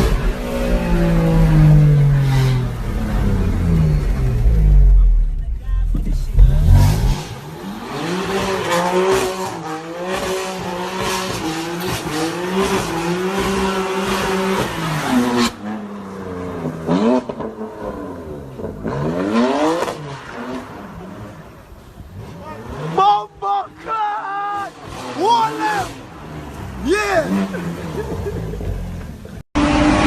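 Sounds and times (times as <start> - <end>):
car engine revving: 0.0 - 23.1, 24.6 - 30.0.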